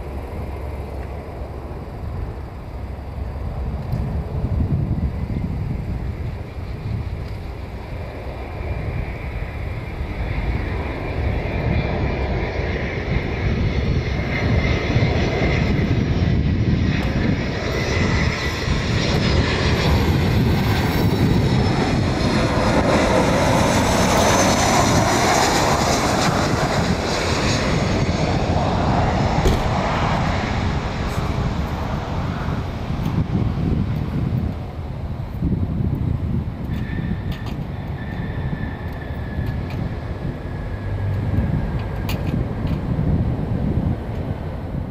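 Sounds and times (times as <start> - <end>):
jet airliner rumble with whine: 0.0 - 44.9.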